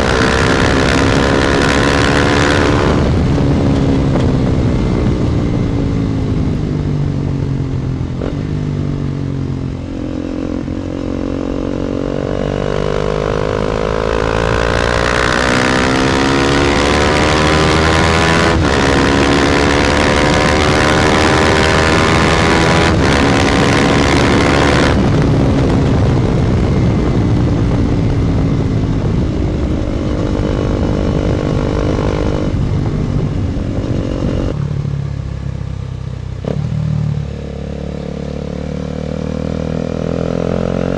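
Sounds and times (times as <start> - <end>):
motorcycle engine pulling hard: 0.0 - 34.6
wind noise on microphone: 0.0 - 34.9.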